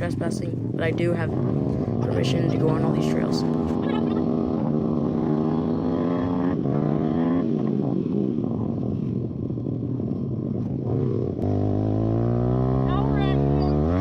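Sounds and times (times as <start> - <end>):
motorbike engine revving: 0.0 - 14.0.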